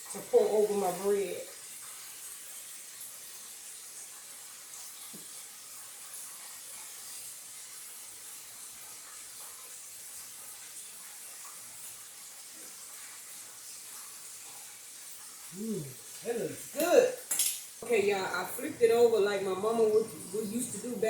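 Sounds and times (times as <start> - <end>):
chicken wings sizzling in oil: 0.0 - 21.0.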